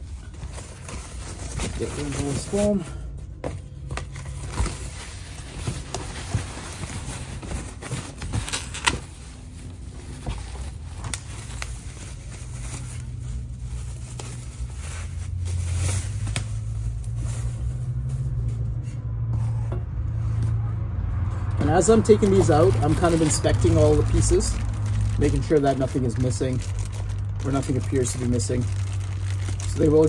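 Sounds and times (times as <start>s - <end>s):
bubble wrap rustling and crinkling: 0.0s - 3.0s, 3.6s - 18.7s, 21.6s - 30.0s
low vehicle engine rumble: 0.0s - 30.0s.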